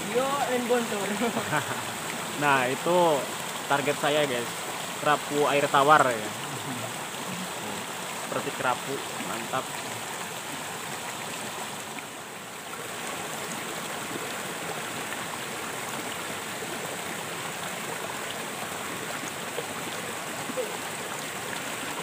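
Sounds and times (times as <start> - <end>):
stream flowing over stones: 0.0 - 22.0.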